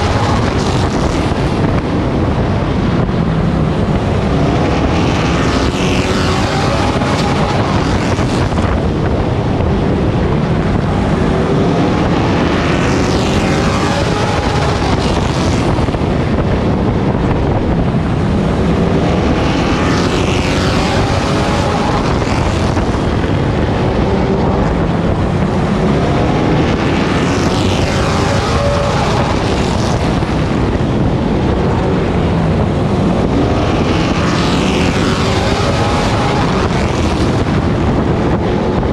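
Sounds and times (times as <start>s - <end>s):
race truck engine revving: 0.0s - 38.9s.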